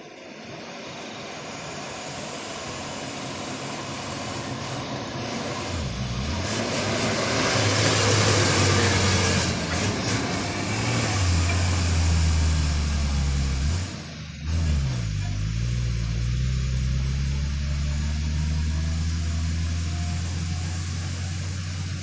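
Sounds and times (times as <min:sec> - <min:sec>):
diesel truck engine droning: 0:01.6 - 0:22.0.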